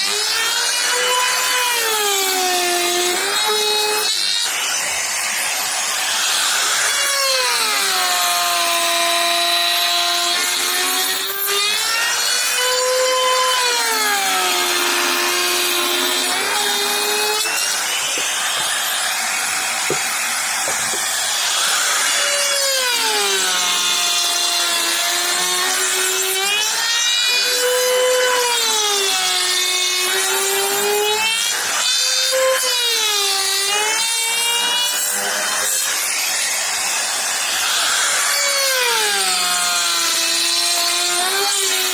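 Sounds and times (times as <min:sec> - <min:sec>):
power tool cutting wood: 0:00.0 - 0:41.9.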